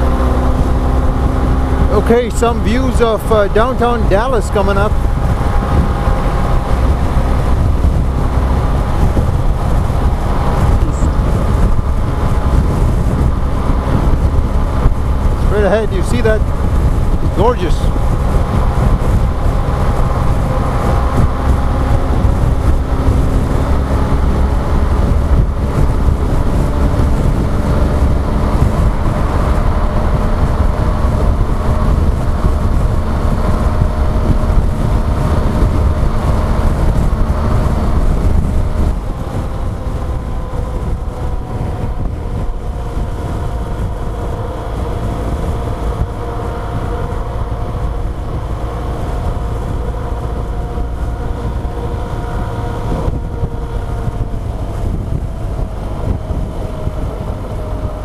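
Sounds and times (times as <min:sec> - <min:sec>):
wind rumble on microphone: 0:00.0 - 0:58.0
motorcycle engine running: 0:04.8 - 0:58.0.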